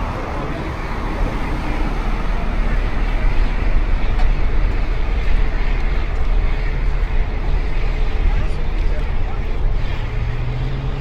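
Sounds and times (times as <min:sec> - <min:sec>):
low city traffic rumble: 0:00.0 - 0:11.0.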